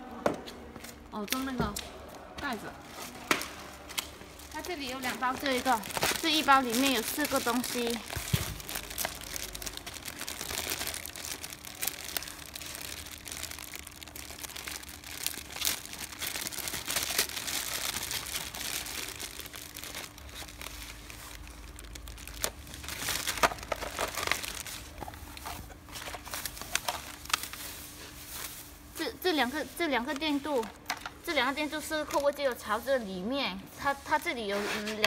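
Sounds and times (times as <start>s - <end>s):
plastic bag crinkling: 2.0s - 32.6s.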